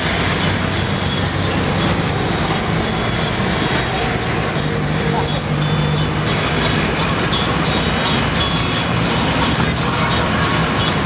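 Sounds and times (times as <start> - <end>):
bicycle road noise: 0.0 - 11.0.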